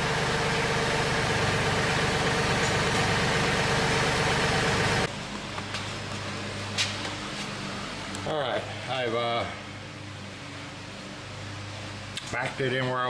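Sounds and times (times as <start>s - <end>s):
tractor diesel engine running: 0.0s - 12.1s.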